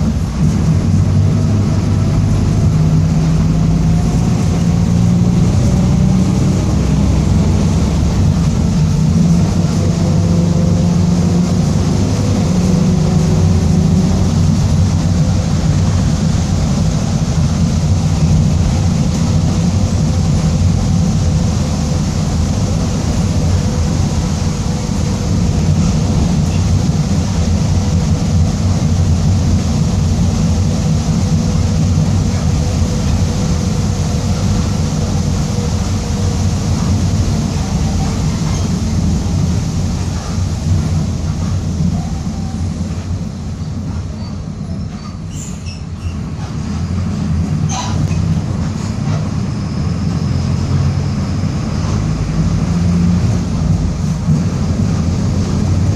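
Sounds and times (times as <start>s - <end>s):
bus diesel engine running: 0.0s - 55.9s.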